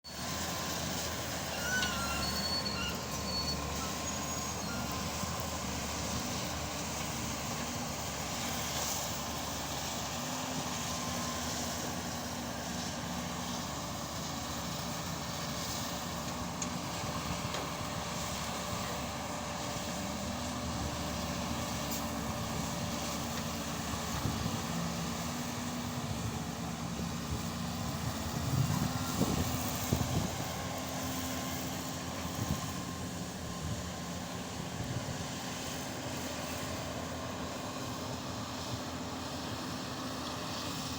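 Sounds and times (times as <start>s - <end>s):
excavator diesel engine: 0.1s - 40.9s.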